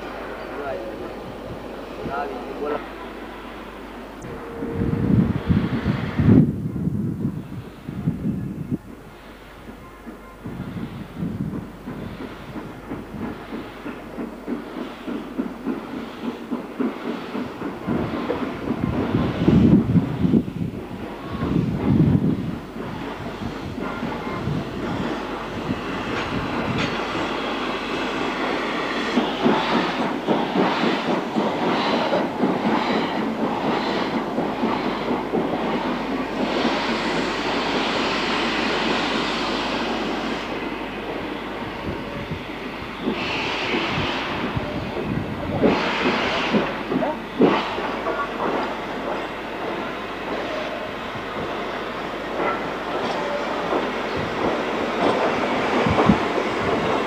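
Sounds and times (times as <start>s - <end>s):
steam locomotive working: 0.0s - 57.0s.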